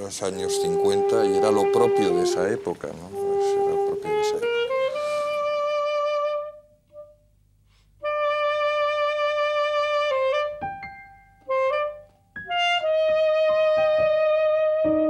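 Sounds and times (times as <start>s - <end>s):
wind instrument long held notes: 0.0s - 7.2s, 8.0s - 10.8s, 11.4s - 15.0s.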